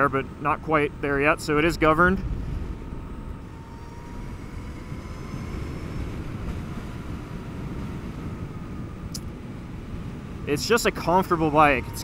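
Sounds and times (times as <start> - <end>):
faint high electric motor whine: 0.0 - 12.0
wind and road noise: 0.0 - 12.0.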